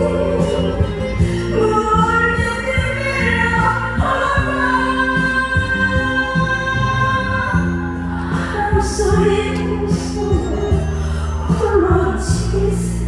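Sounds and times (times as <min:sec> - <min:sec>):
band accompaniment: 0:00.0 - 0:12.8
rhythmic bass line: 0:00.0 - 0:13.0
woman singing: 0:00.0 - 0:13.0.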